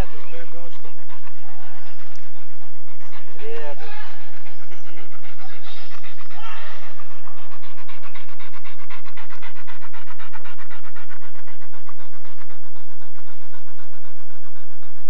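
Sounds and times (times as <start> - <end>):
dog panting fast: 0.0 - 15.0.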